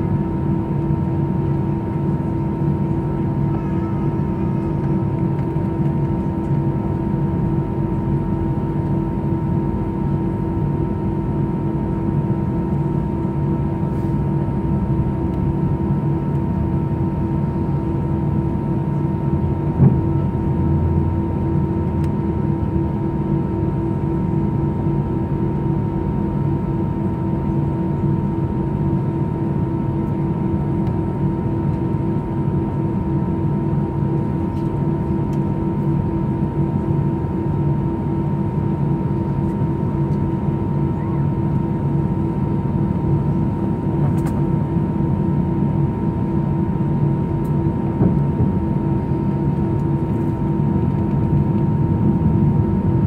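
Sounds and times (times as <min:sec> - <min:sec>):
jet engines humming and whining: 0:00.0 - 0:53.0.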